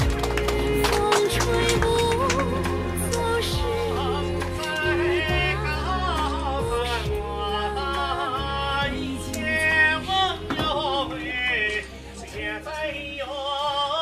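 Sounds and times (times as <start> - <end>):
person singing folk song: 0.7 - 14.0.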